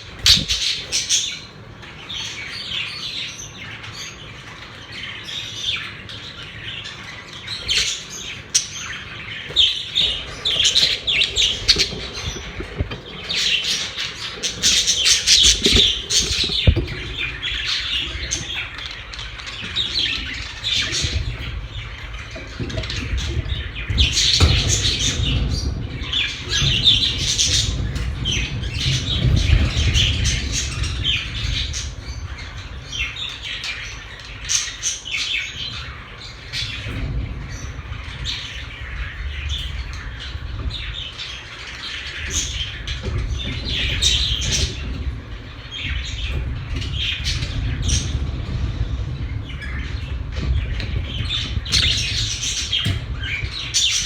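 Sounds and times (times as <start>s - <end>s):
budgerigars chattering and chirping: 0.0s - 54.0s
low steady rumble: 4.3s - 54.0s.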